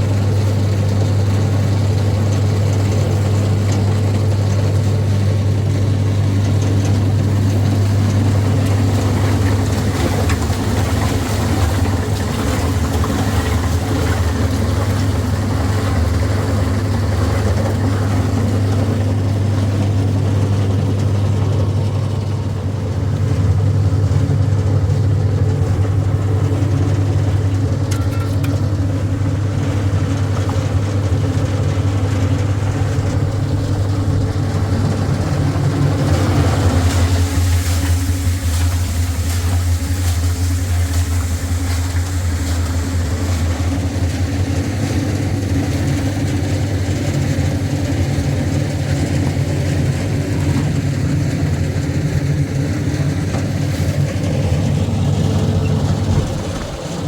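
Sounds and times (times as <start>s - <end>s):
engine running with low hum: 0.0s - 57.0s.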